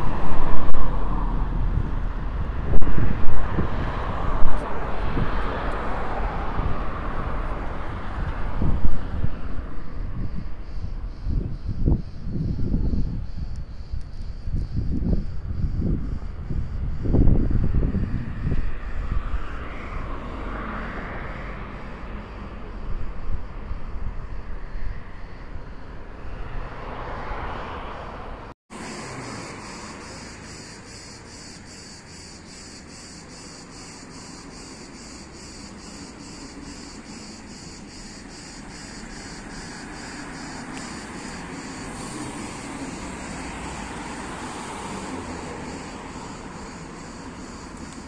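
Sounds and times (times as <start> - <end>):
insects chirping: 0.0 - 48.0
road traffic: 0.0 - 48.0.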